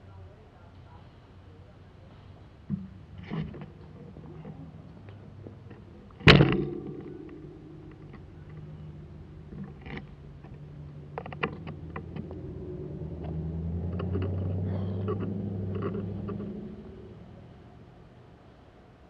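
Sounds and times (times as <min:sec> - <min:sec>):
car engine hum: 0:01.4 - 0:19.0.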